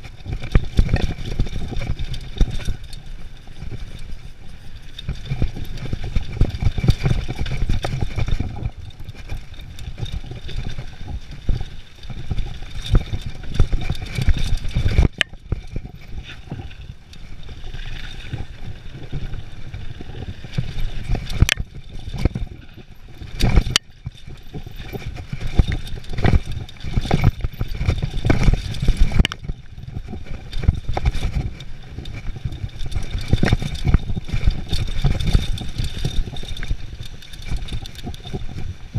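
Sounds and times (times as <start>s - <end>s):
bike rattling and clattering: 0.0s - 38.9s
wind rushing over microphone: 4.9s - 38.9s.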